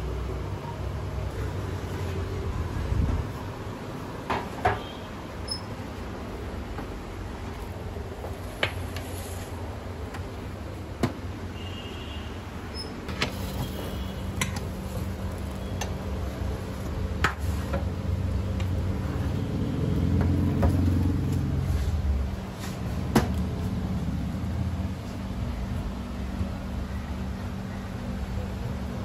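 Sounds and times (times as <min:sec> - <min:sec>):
road traffic rumbling: 0:00.0 - 0:29.0.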